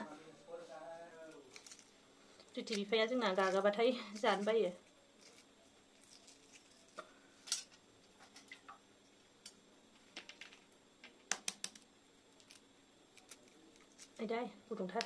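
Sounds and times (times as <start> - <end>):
eggshell crackling: 1.4 - 14.2.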